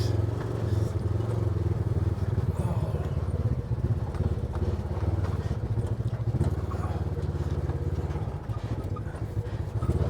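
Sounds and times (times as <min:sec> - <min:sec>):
off-road vehicle engine at low speed: 0:00.0 - 0:10.0.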